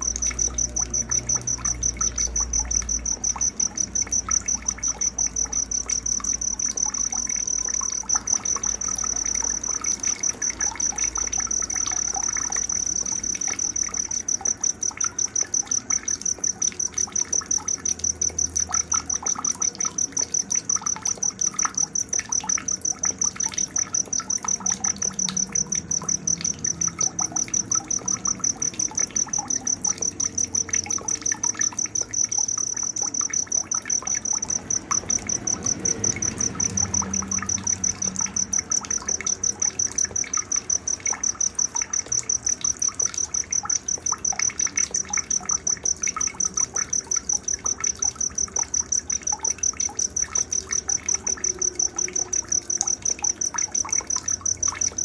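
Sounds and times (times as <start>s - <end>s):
insect trilling: 0.0s - 55.0s.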